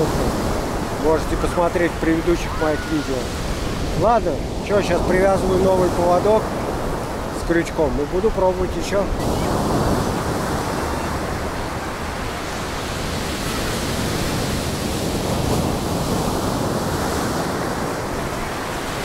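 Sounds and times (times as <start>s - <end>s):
sea surf breaking on beach: 0.0s - 19.0s.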